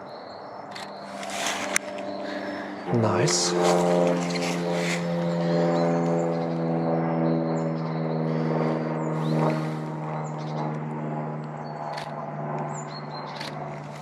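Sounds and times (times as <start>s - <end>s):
engine drone: 0.0s - 14.0s
small birds chirping: 0.0s - 14.0s.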